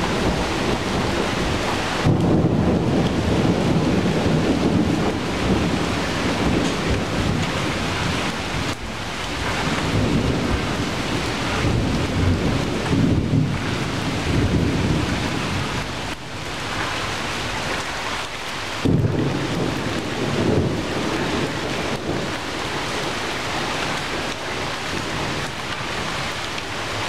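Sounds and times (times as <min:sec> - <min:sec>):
heavy rain on tree leaves: 0:00.0 - 0:27.0.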